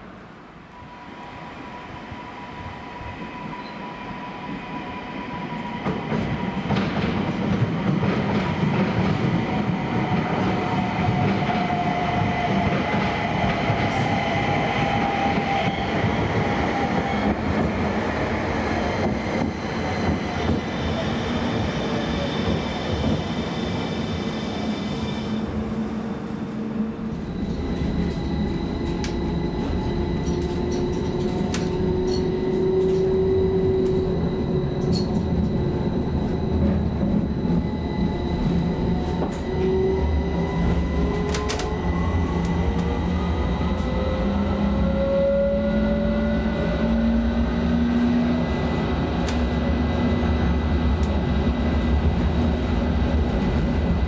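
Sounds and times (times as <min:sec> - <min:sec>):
tram wheels rumbling on rails: 0:02.9 - 0:54.0.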